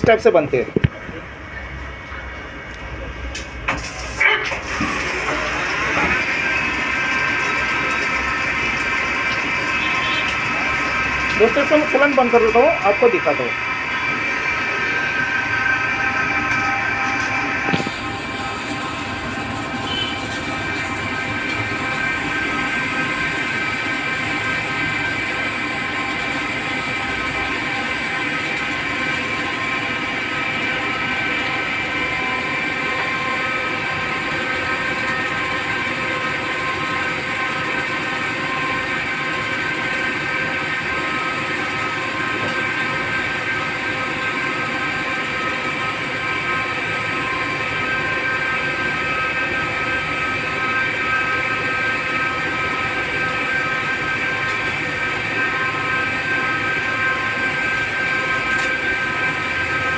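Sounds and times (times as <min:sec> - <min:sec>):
lathe spindle whirring: 0:04.0 - 0:59.9
high whining tones: 0:04.2 - 0:59.9.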